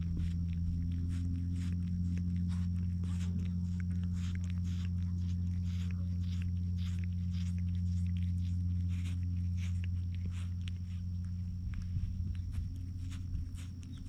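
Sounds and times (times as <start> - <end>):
cat licking and nibbling: 0.0 - 14.0
low hum: 0.0 - 14.0.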